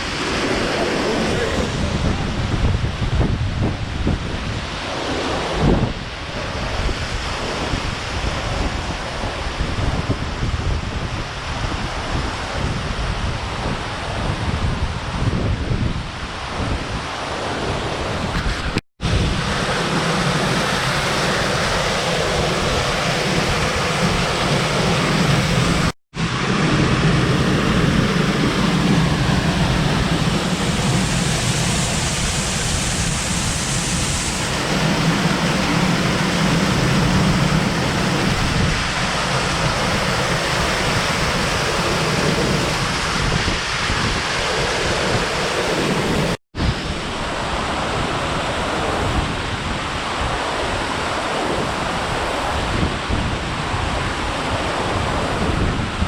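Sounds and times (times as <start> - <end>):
waterfall roaring: 0.0 - 15.3, 16.0 - 56.0
wind buffeting microphone: 0.0 - 56.0.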